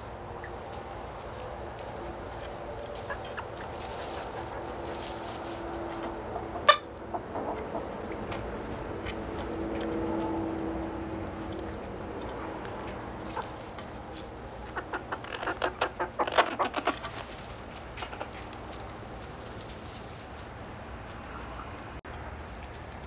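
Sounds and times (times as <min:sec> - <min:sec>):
hens clucking: 0:00.0 - 0:22.2.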